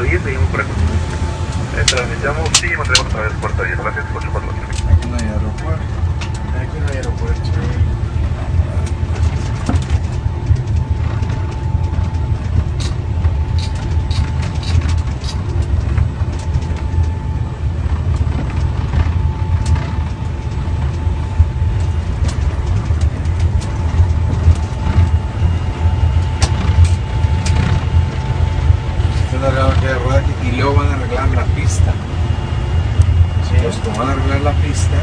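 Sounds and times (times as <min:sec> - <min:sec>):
faint steady whine: 0:00.0 - 0:35.0
jet engine rumble taxiing: 0:00.0 - 0:35.0.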